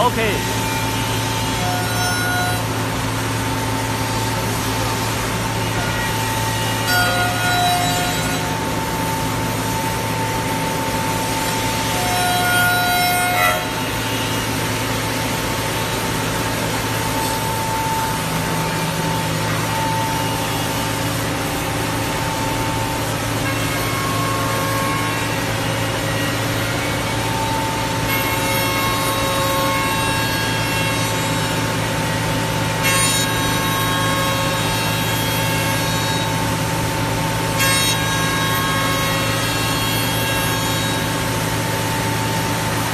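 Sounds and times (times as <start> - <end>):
cutter machining wood: 0.0 - 42.9.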